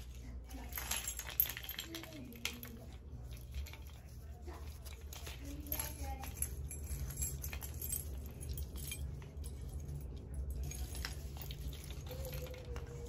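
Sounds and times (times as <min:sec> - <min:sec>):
low steady hum: 0:00.0 - 0:13.0
metal key rings jangling: 0:00.0 - 0:13.0.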